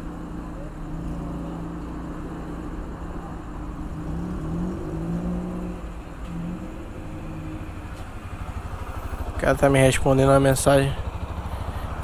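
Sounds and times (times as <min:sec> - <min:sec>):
motorcycle engine revving: 0:00.8 - 0:12.0.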